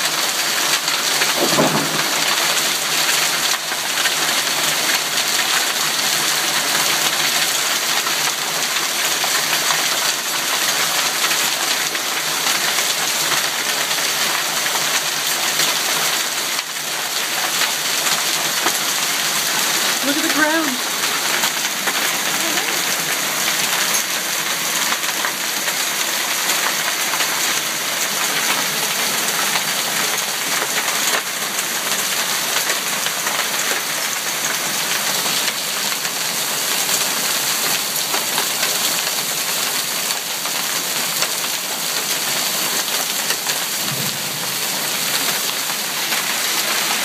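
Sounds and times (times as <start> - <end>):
hail and rain pelting: 0.0 - 47.0.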